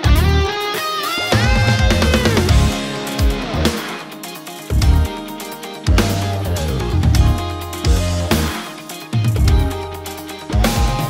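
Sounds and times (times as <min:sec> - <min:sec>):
background music with heavy bass: 0:00.0 - 0:11.0.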